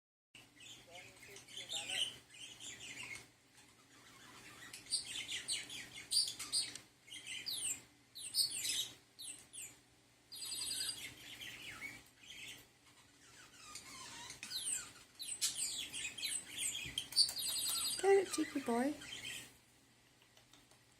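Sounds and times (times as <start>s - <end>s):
budgerigar chirping and warbling: 0.4s - 19.5s.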